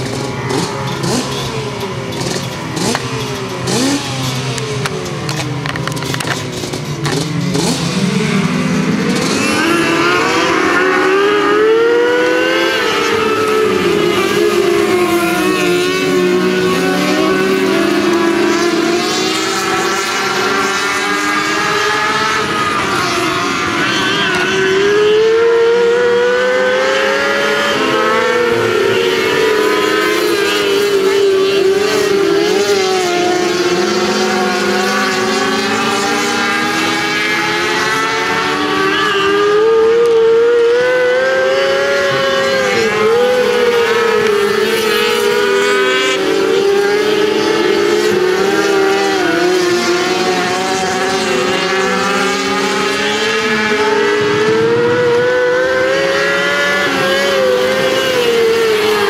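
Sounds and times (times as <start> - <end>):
racing car engines: 0.0 - 59.0.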